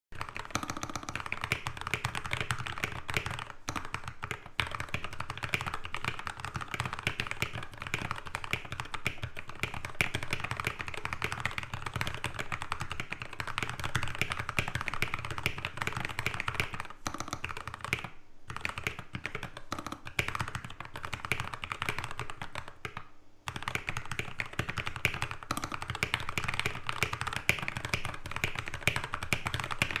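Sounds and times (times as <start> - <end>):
fast keyboard typing: 0.1 - 30.0.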